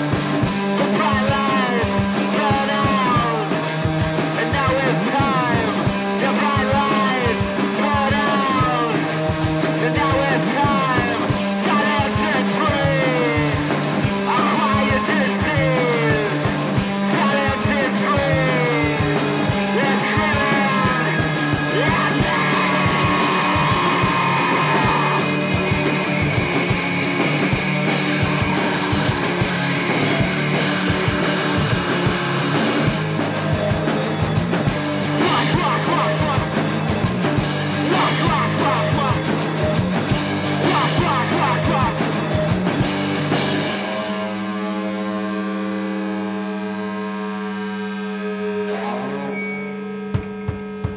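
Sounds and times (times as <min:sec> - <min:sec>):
rock music with singing: 0:00.0 - 0:50.9.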